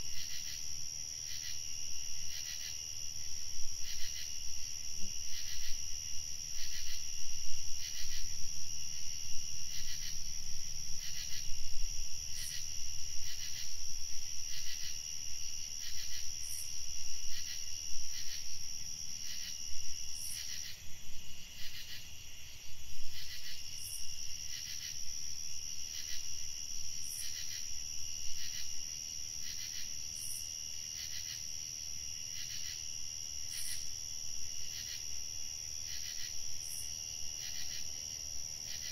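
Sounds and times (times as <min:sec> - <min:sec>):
crickets trilling: 0:00.0 - 0:38.9
insect chirps: 0:00.0 - 0:38.9.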